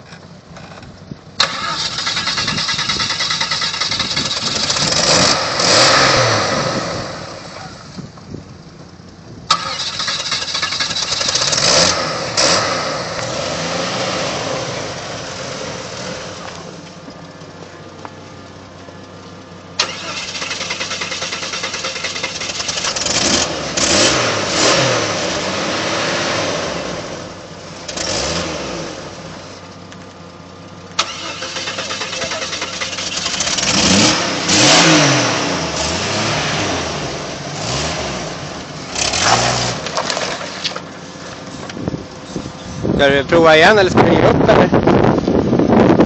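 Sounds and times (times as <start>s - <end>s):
off-road vehicle engine revving: 1.4s - 8.4s, 9.4s - 18.7s, 19.8s - 46.0s.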